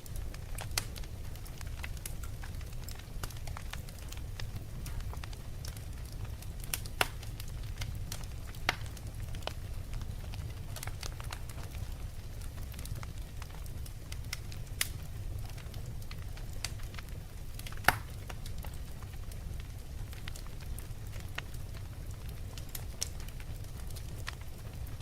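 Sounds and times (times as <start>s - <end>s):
fire popping: 0.0s - 25.0s
wood fire crackling: 0.0s - 25.0s.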